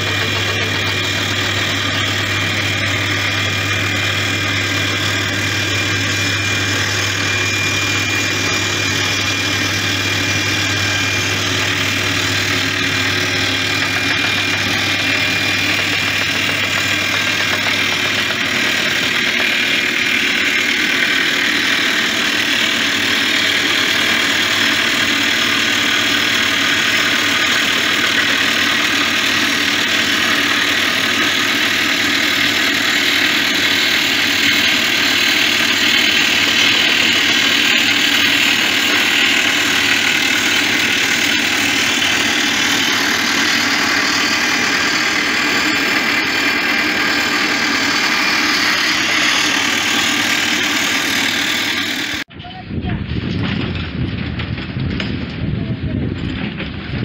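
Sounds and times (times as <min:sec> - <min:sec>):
drill rig engine and percussive drill: 0:00.0 - 0:52.3.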